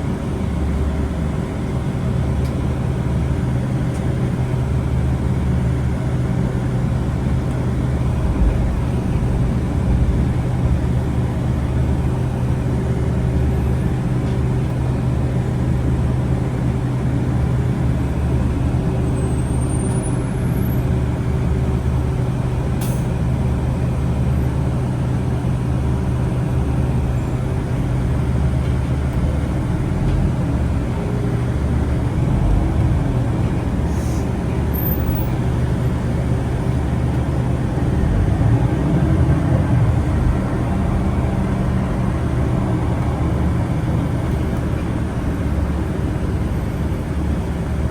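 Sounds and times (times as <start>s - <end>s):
bus engine hum and rumble: 0.0s - 47.9s.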